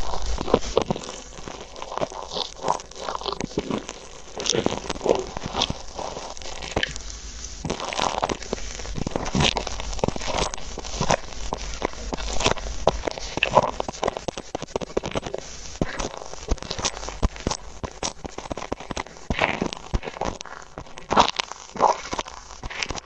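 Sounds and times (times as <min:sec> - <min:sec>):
ear pick scraping: 0:00.0 - 0:23.0
foam clay crackling: 0:00.0 - 0:23.0.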